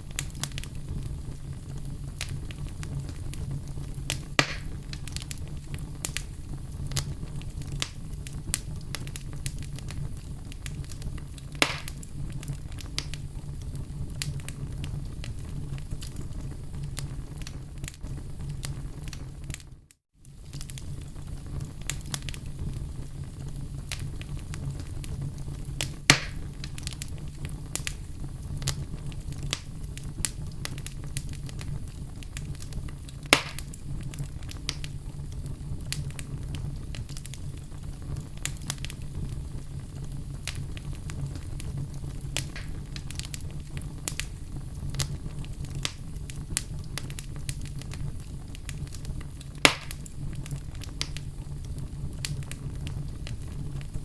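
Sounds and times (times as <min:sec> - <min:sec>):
fire crackling: 0:00.0 - 0:54.0
fire popping: 0:00.0 - 0:54.0
flames rumbling: 0:00.0 - 0:54.0.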